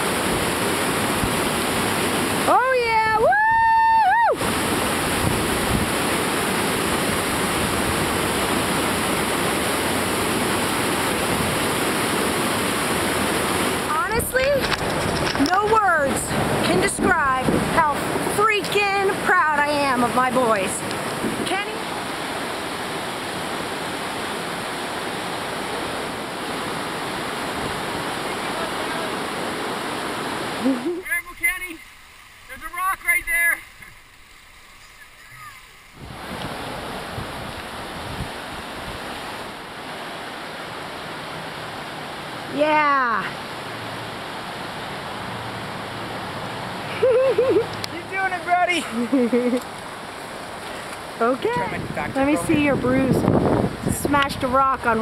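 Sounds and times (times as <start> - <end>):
whitewater rapids rushing: 0.0 - 55.0.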